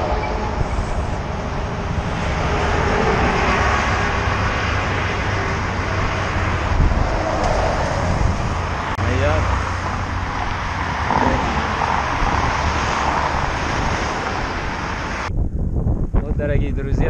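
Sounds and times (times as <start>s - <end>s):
road traffic passing: 0.0s - 15.3s
wind rushing over microphone: 0.0s - 17.0s.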